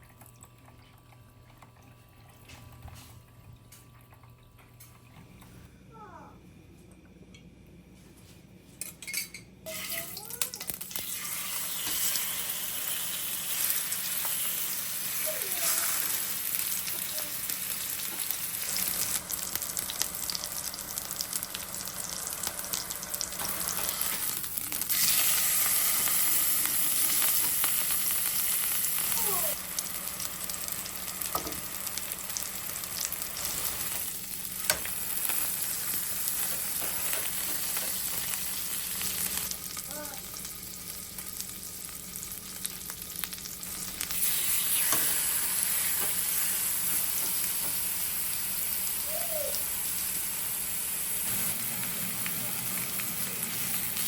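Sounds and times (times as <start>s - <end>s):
food sizzling in a pan: 9.6s - 54.0s.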